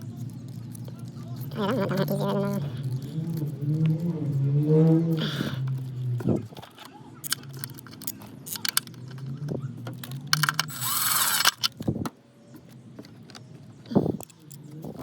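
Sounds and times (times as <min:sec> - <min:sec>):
rasping rustle: 0:00.0 - 0:12.0
small parts clicking and rattling: 0:00.0 - 0:15.0.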